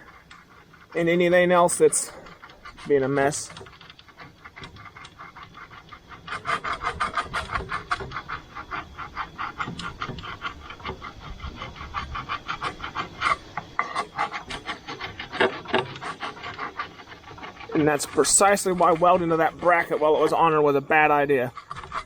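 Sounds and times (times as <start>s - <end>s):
file scraping metal: 0.0s - 22.0s.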